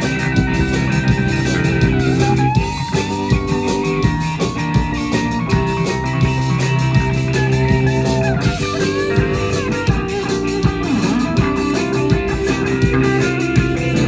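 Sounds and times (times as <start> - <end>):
drums: 0.0 - 14.0
electric guitar bending notes: 0.0 - 14.0
steady low bass: 0.0 - 14.0.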